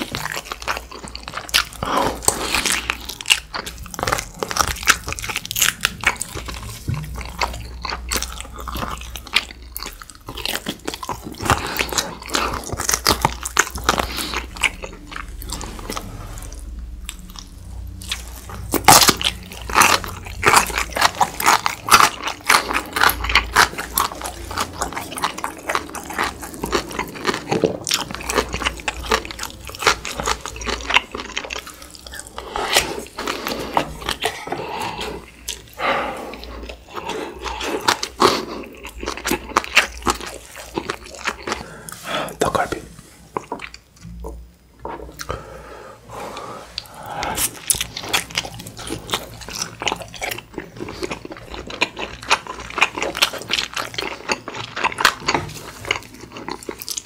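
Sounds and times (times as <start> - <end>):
wet chewing and biting meat: 0.0 - 45.3, 46.8 - 57.0.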